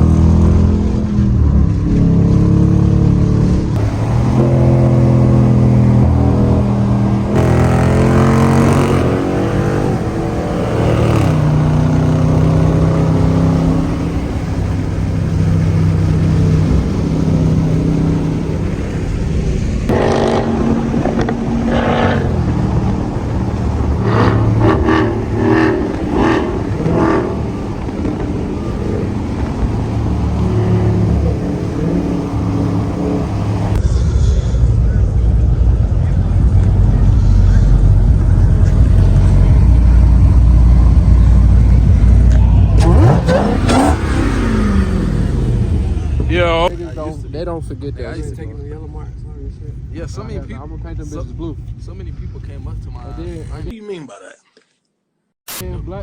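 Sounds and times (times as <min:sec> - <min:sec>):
car engine accelerating hard: 0:00.0 - 0:33.8, 0:34.6 - 0:49.6.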